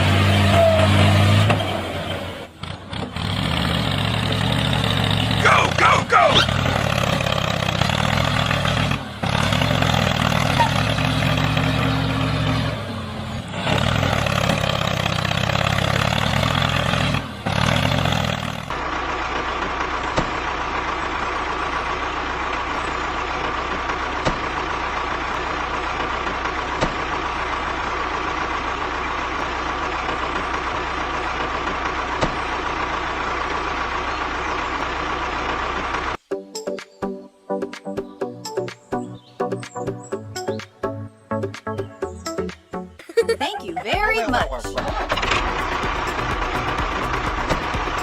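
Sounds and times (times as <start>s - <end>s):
vehicle engine running: 0.0s - 36.3s, 38.4s - 48.0s.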